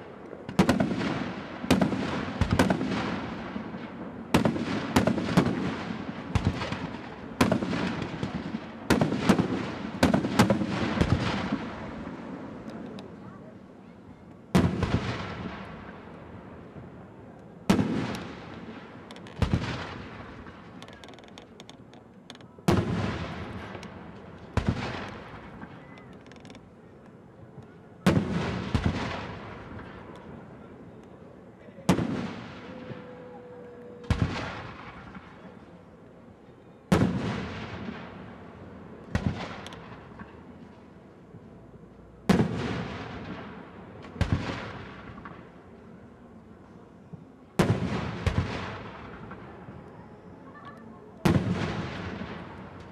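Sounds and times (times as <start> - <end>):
fireworks bursting with echo: 0.0 - 52.9.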